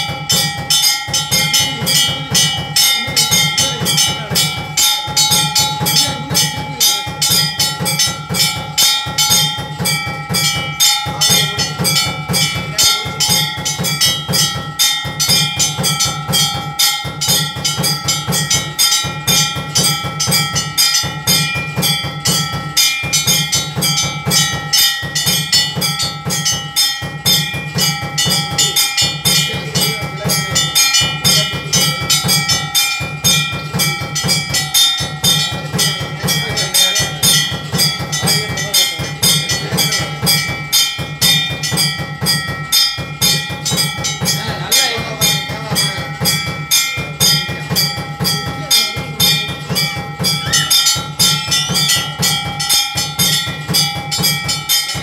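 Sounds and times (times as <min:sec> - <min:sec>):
deep drum beat: 0:00.0 - 0:55.0
fast percussion strikes: 0:00.0 - 0:55.0
ringing tones: 0:00.0 - 0:55.0.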